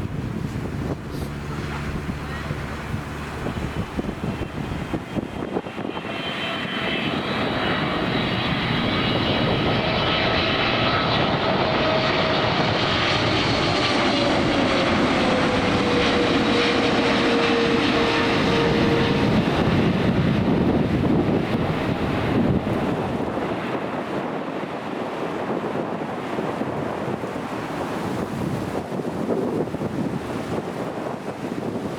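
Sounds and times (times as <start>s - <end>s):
airliner engine noise: 0.0s - 31.9s
jet engine whine: 0.0s - 31.9s.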